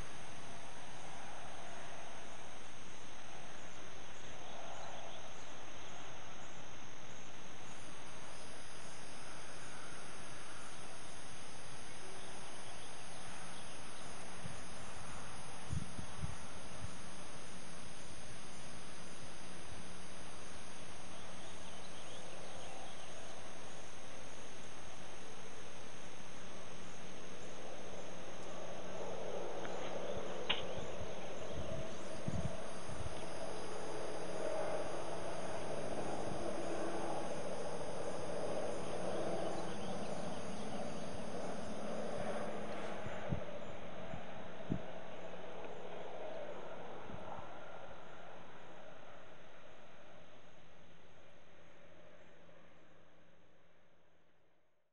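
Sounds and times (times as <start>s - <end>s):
insects chirring: 0.0s - 48.6s
steady hiss: 0.0s - 53.0s.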